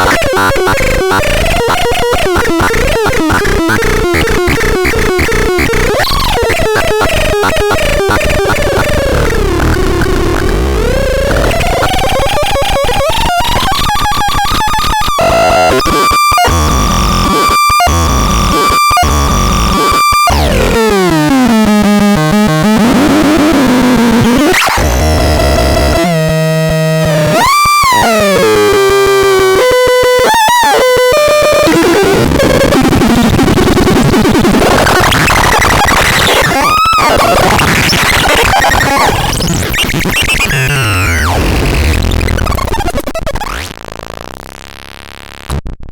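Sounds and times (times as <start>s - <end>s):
harsh synthesizer noise: 0.0s - 45.6s.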